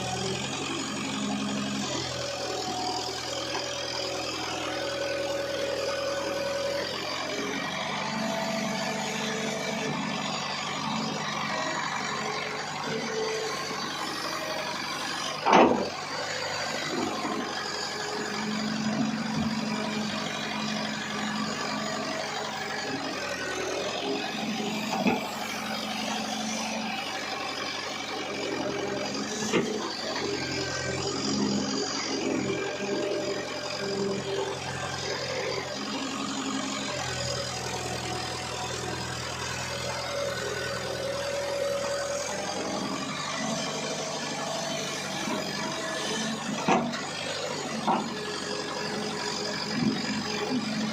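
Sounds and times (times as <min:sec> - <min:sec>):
digger diesel engine running: 0:00.0 - 0:50.9.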